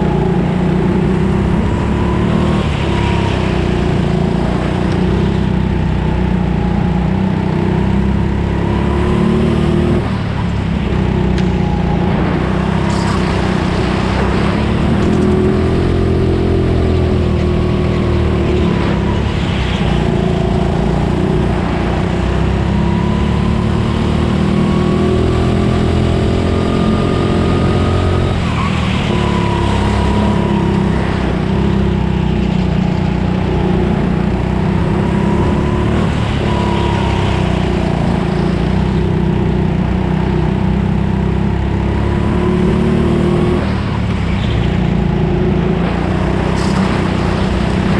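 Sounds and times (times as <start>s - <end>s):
go-kart engine racing: 0.0s - 47.9s.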